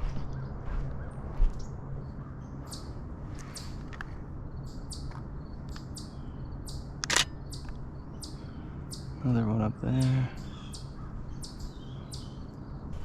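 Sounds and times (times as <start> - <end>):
low background hum: 0.0 - 13.0
songbirds chirping: 0.0 - 13.0.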